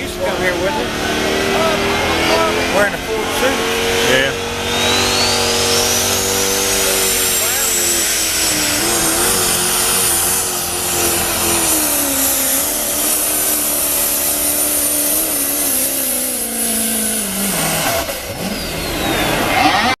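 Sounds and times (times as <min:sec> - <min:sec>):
diesel truck engine revving: 0:00.0 - 0:20.0
turbocharger whistle: 0:00.4 - 0:20.0.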